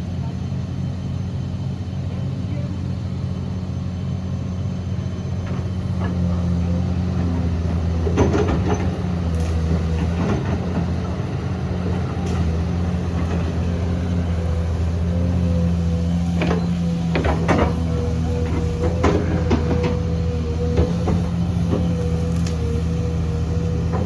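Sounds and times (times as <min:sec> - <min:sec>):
heavy machine diesel engine running: 0:00.0 - 0:24.0.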